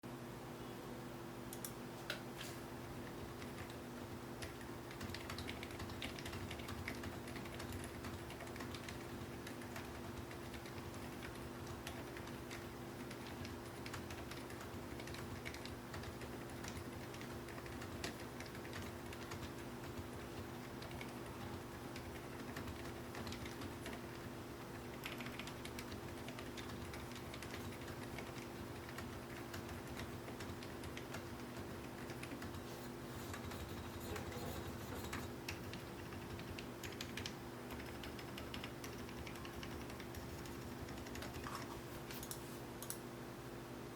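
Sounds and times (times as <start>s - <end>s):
typing on keyboard: 3.0s - 3.8s, 4.4s - 43.0s.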